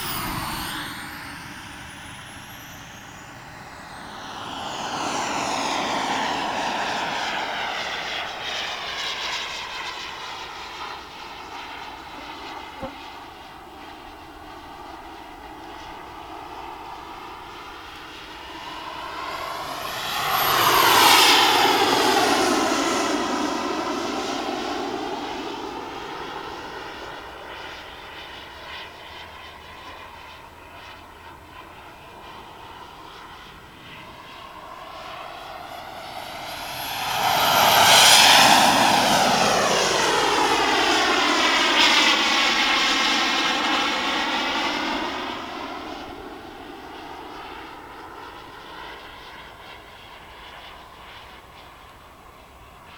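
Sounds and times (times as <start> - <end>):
model jet turbine whine passing: 0.0 - 52.9.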